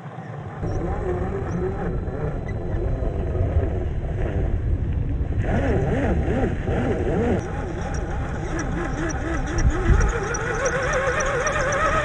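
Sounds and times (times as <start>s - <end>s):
rc car motor whine: 0.3s - 4.0s, 5.4s - 12.0s
low rumble: 0.5s - 12.0s.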